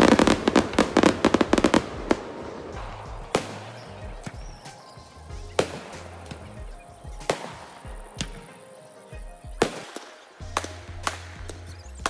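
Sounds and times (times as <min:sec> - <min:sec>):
fireworks bangs and pops: 0:00.0 - 0:08.6, 0:09.5 - 0:11.8
music playing: 0:00.0 - 0:12.0.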